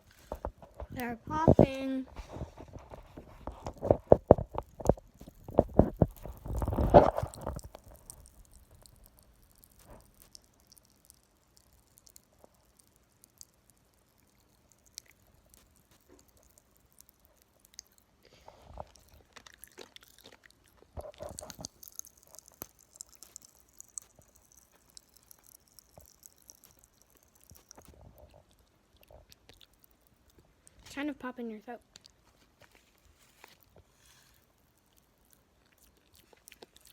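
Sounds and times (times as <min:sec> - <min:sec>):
popping candy crackling in mouth: 0:00.0 - 0:36.9.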